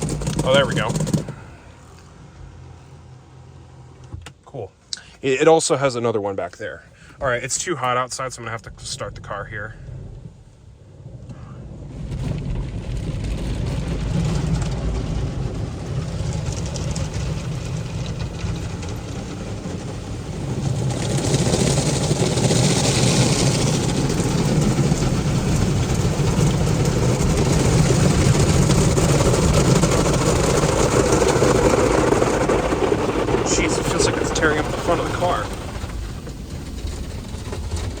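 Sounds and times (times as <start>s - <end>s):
car engine rumble: 0.0s - 38.0s
car wash water and scrubbing: 0.0s - 38.0s.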